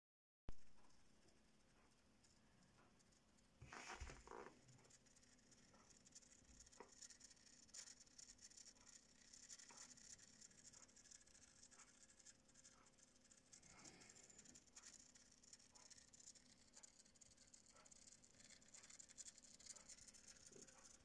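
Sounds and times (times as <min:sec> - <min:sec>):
soft ticks: 0:00.5 - 0:21.0.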